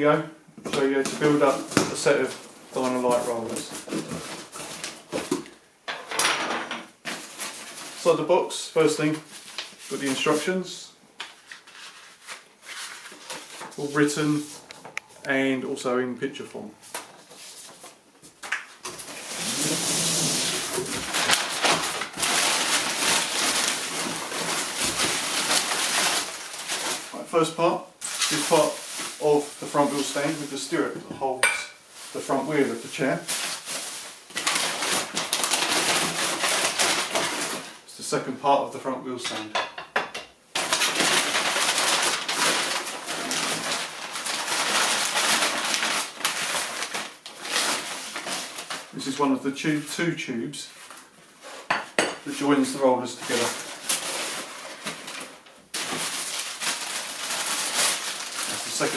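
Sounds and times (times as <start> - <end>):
packaging rustling and crinkling: 0.7 - 5.6, 7.0 - 15.2, 16.8 - 37.9, 40.5 - 49.9, 50.7 - 51.7, 52.3 - 58.9.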